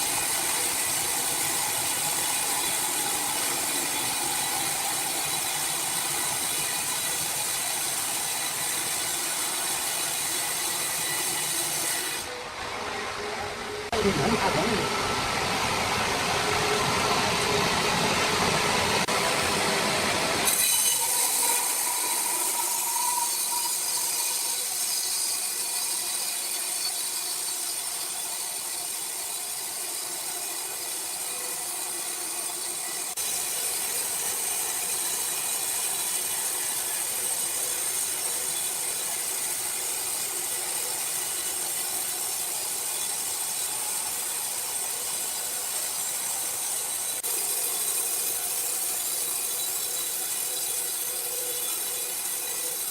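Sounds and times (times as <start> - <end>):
saw cutting wood: 0.0 - 52.9.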